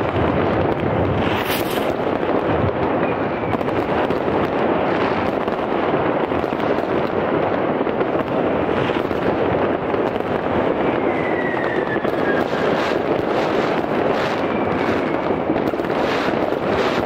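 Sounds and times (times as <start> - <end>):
fireworks crackling and banging: 0.0 - 17.0
whistling firework: 0.0 - 17.0.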